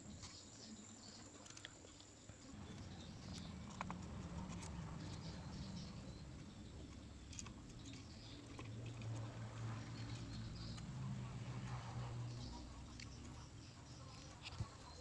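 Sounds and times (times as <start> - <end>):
low steady hum: 0.0 - 15.0
small clicks and scratching: 0.0 - 15.0.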